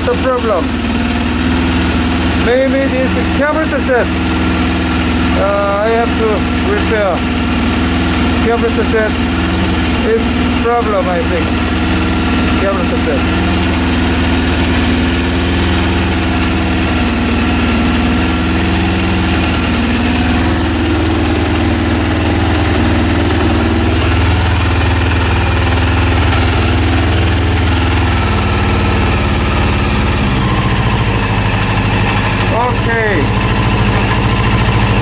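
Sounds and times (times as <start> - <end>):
motorcycle engine running low revs: 0.0 - 35.0.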